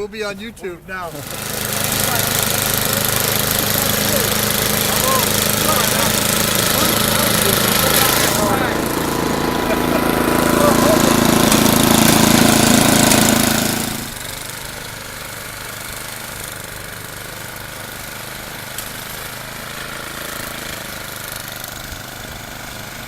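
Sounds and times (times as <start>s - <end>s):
engine running: 0.6s - 23.0s.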